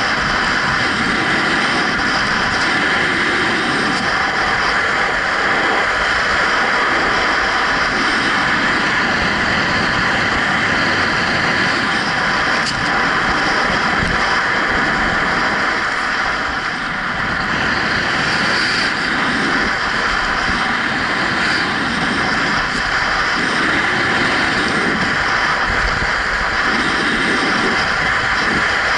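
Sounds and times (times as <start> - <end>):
wind on microphone: 0.0 - 28.9.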